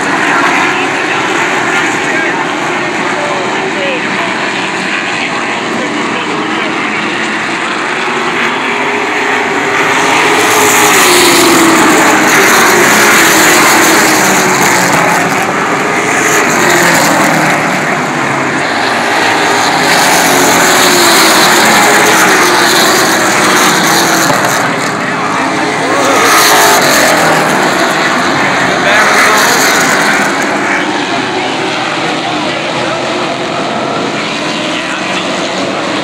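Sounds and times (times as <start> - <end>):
race car engines passing: 0.0 - 36.0.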